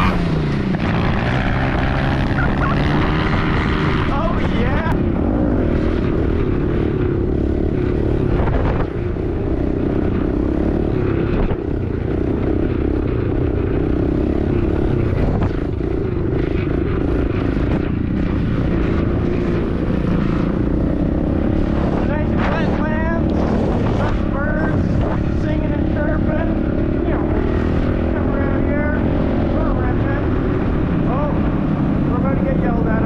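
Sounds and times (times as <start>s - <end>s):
small motorbike engine running: 0.0s - 33.0s
wind rushing over microphone: 0.0s - 33.0s.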